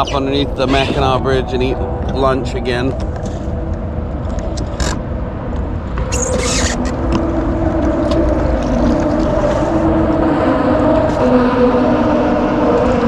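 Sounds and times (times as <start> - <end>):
jet ski engine running: 0.0 - 13.0
wind and water rumble: 0.0 - 13.0.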